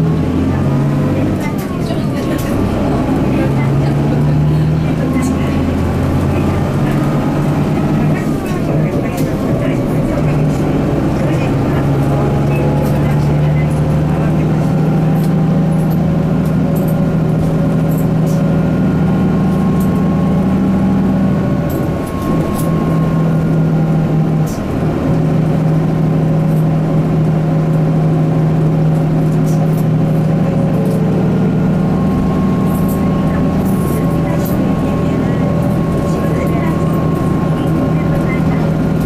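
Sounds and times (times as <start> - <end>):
bus diesel engine pulling: 0.0 - 39.0
light interior rattles: 0.2 - 39.0.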